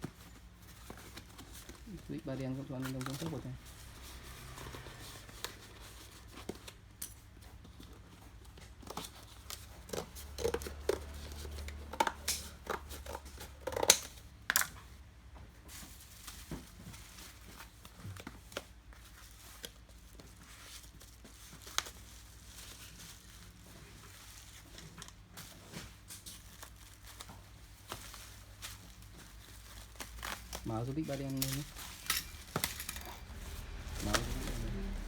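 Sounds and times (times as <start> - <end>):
bubble wrap crinkling: 0.0 - 15.0, 15.7 - 35.0.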